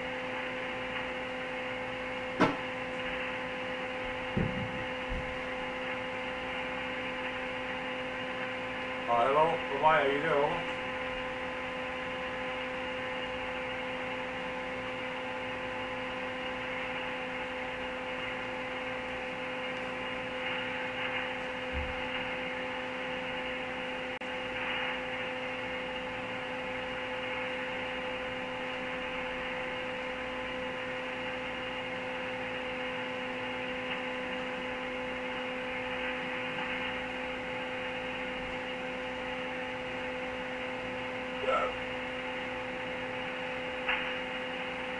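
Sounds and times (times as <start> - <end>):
radio static hiss with hum: 0.0 - 44.9.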